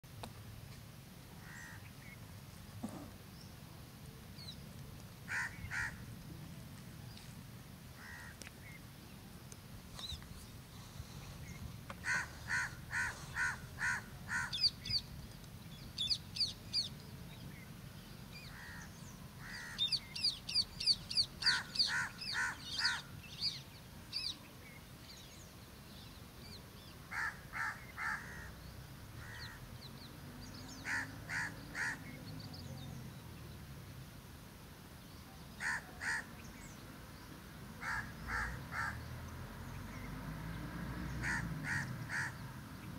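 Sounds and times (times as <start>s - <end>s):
birds calling: 1.4s - 3.6s, 4.3s - 6.1s, 8.0s - 8.9s, 9.9s - 33.5s, 35.0s - 40.2s, 41.0s - 42.9s.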